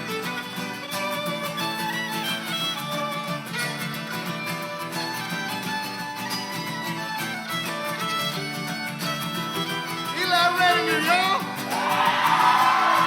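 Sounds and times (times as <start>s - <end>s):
country band playing: 0.0s - 13.0s
fiddle melody: 0.0s - 13.0s.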